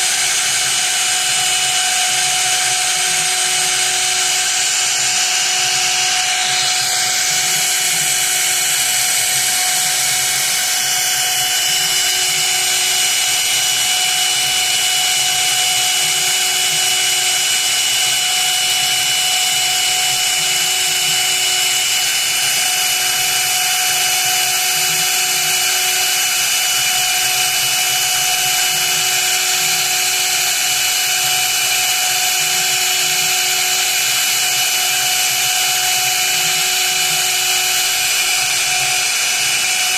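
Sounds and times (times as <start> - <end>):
cnc spindle whining: 0.0 - 39.9.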